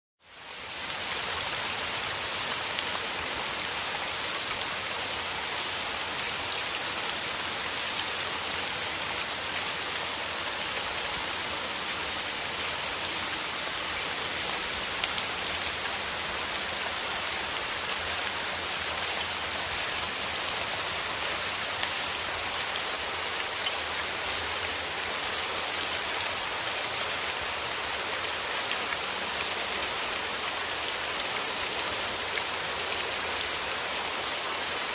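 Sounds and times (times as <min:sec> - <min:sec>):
rain falling: 0:00.2 - 0:34.9.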